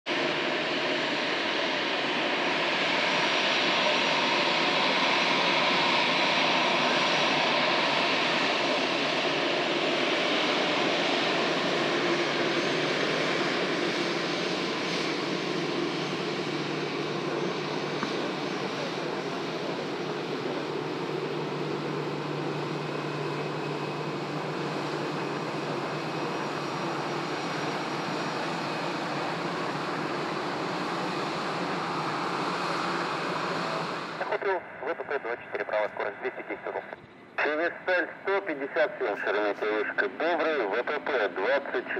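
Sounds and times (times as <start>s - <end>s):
jet engines whining: 0.1s - 41.9s.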